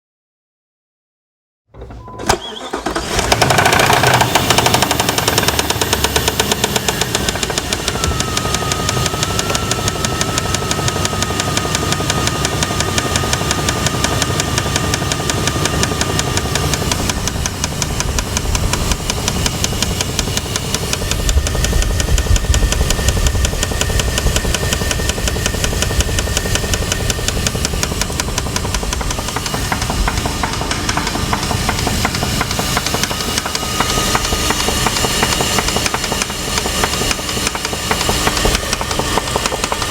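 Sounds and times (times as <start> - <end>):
car engine starting: 1.8 - 39.9
rapid regular engine knock: 3.2 - 39.9.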